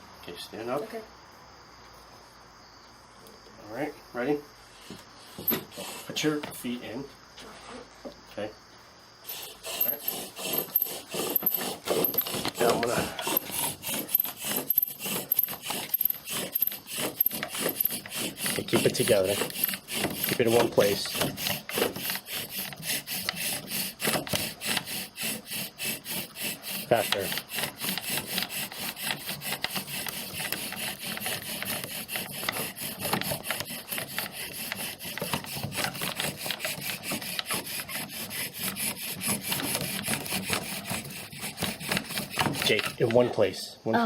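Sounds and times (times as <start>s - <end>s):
wood-on-wood rubbing: 4.8s - 8.2s, 9.2s - 43.6s.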